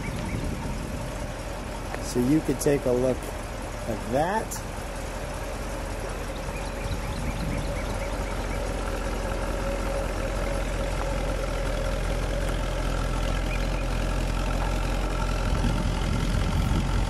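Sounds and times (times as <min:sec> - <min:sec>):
car engine idling slowly: 0:00.0 - 0:17.0.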